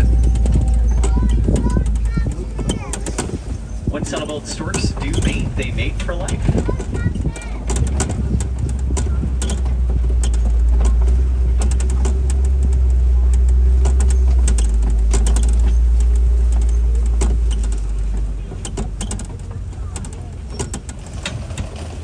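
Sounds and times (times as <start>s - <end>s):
truck engine rumbling: 0.0s - 22.0s
vehicle clicks and rattles: 0.0s - 22.0s.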